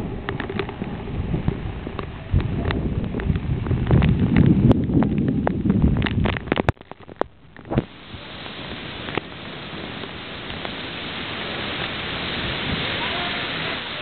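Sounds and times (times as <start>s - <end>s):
rain hissing: 0.0s - 14.0s
wind buffeting microphone: 0.0s - 14.0s.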